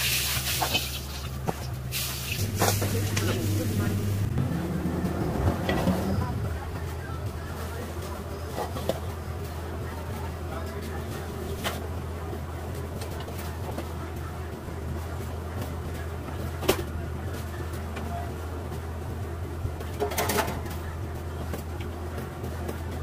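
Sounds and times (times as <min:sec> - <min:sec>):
gas burner running: 0:00.0 - 0:23.0.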